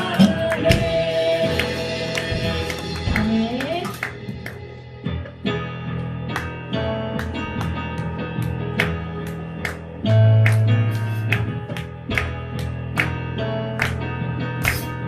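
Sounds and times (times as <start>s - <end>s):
instrumental worship music: 0.0s - 15.0s.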